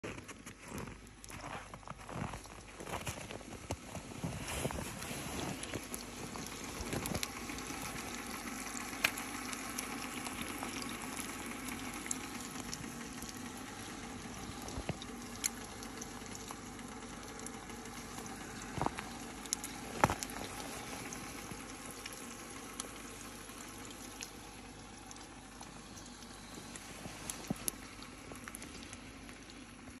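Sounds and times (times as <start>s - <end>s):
sharp clicks and pops: 0.2s - 30.0s
eggs sizzling in a pan: 5.9s - 30.0s.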